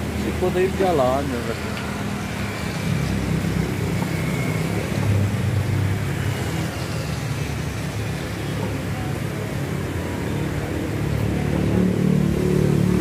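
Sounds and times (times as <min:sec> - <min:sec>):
motorbikes passing on wet street: 0:00.0 - 0:13.0.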